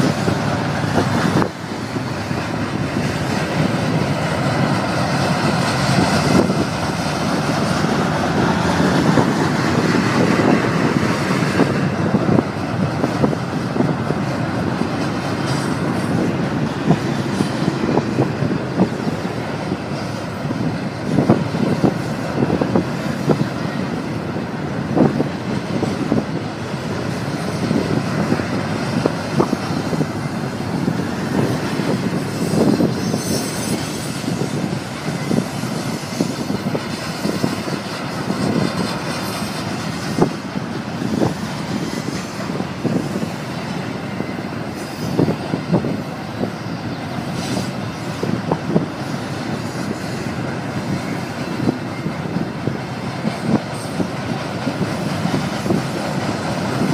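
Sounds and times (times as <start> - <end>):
sharp clacks of train wheels: 0.0 - 56.9
steel wheels on rail: 0.0 - 56.9.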